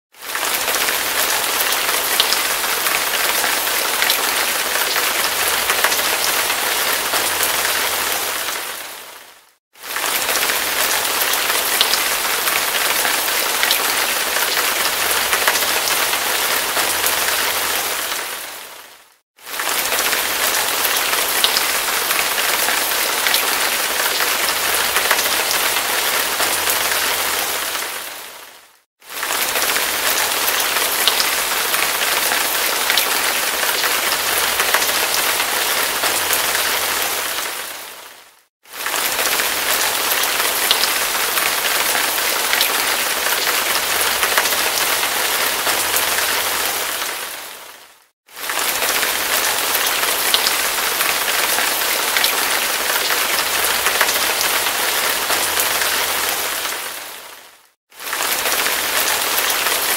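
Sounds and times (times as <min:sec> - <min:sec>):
hard rain falling: 0:00.1 - 0:59.9.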